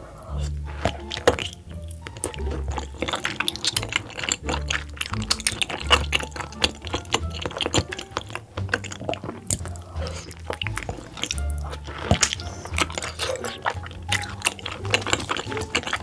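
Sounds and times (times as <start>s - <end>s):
background music with bass: 0.0s - 16.0s
wet chewing: 0.0s - 16.0s.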